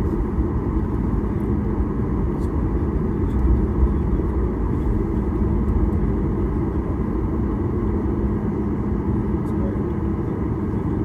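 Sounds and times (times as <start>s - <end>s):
faint steady hum: 0.0s - 11.0s
jet engine low rumble: 0.0s - 11.0s.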